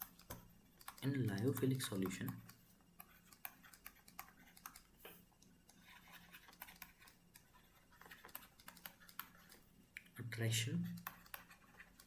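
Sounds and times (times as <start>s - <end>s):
pen scratching and tapping: 0.0s - 9.7s, 10.9s - 12.0s.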